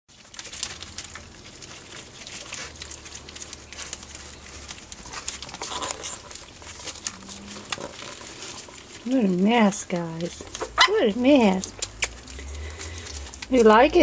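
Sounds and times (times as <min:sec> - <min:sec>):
puppies lapping food: 0:00.1 - 0:14.0.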